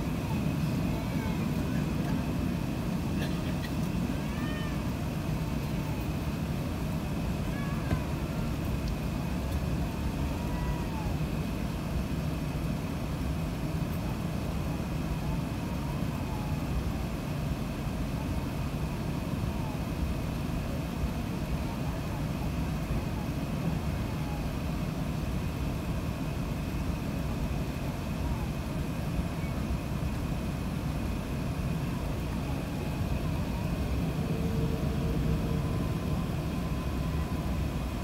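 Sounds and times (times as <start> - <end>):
aircraft cabin rumble: 0.0 - 38.0
faint high whine: 0.0 - 38.0.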